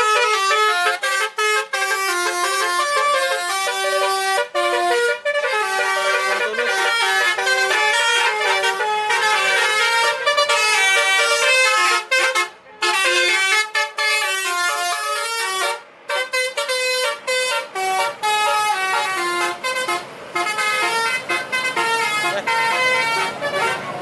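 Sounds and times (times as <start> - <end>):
musical air horn melody: 0.0 - 24.0.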